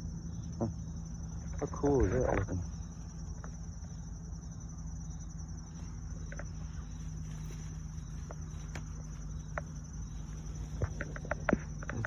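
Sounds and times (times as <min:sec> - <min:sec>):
high-pitched insect trilling: 0:00.0 - 0:12.0
low steady hum: 0:00.0 - 0:12.0.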